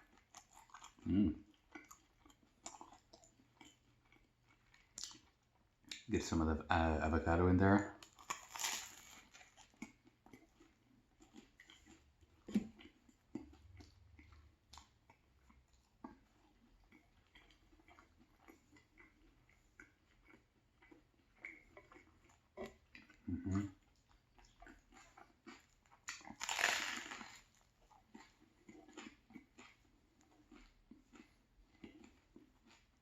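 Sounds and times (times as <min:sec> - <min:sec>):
person chewing crunchy bread: 0:00.0 - 0:06.1, 0:07.9 - 0:33.0.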